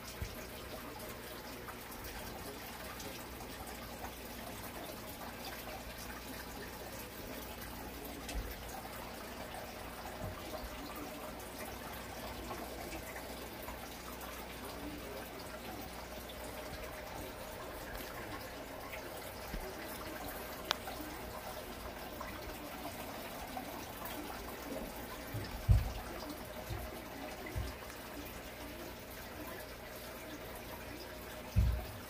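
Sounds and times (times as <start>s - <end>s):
water pouring into aquarium: 0.0s - 32.0s.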